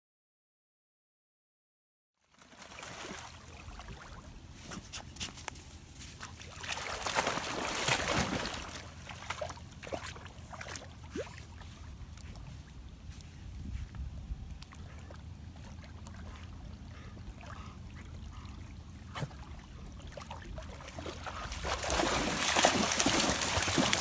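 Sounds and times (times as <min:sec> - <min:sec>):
dogs splashing through water: 0:02.3 - 0:13.0, 0:14.5 - 0:24.0.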